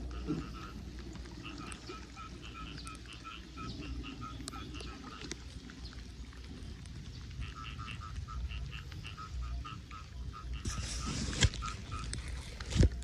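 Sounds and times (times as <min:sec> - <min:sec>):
frogs calling: 0:00.0 - 0:12.3
low steady rumble: 0:00.0 - 0:13.0.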